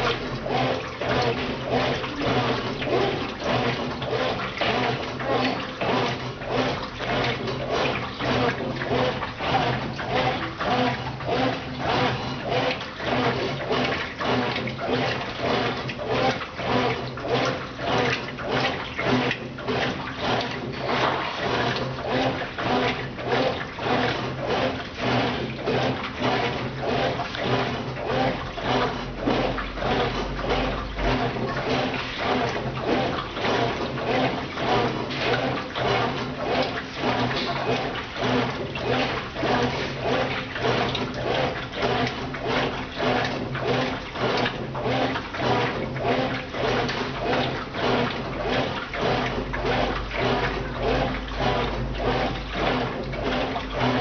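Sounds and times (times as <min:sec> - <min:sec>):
washing machine motor hum: 0:00.0 - 0:54.0
water and laundry sloshing: 0:00.0 - 0:54.0.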